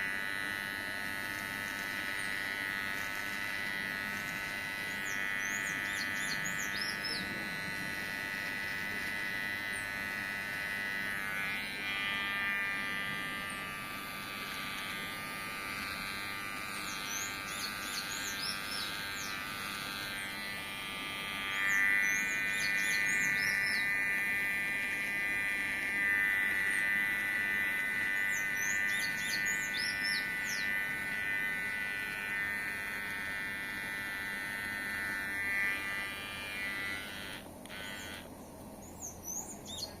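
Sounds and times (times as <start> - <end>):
electric hair clipper buzzing: 0.0 - 40.0.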